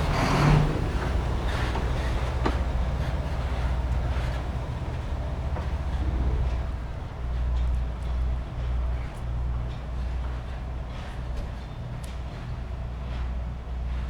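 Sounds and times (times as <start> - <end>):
diesel train engine hum: 0.0 - 14.0
wheels clacking over rail joints: 0.0 - 14.0.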